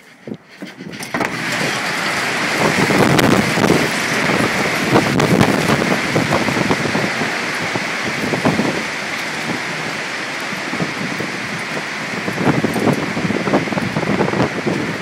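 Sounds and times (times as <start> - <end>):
strong wind rushing: 0.0 - 15.0
heavy rain: 1.1 - 15.0.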